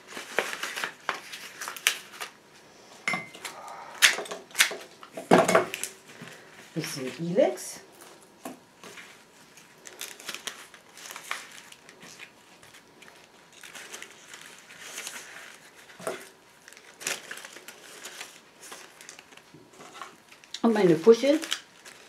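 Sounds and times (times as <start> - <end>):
leaves rustling and crinkling: 0.0 - 4.1, 5.7 - 22.0.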